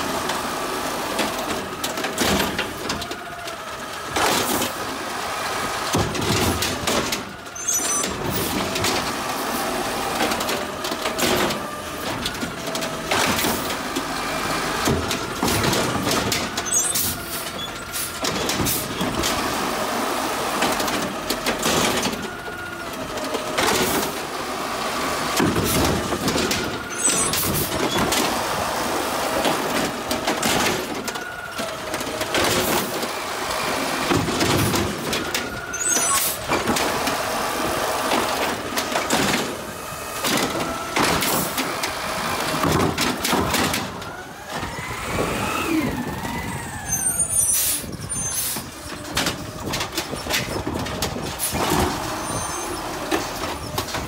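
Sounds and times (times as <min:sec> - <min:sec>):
garbage truck running: 0:00.0 - 0:54.0
hydraulic whine: 0:00.0 - 0:54.0
trash cart clanking and banging: 0:00.0 - 0:54.0.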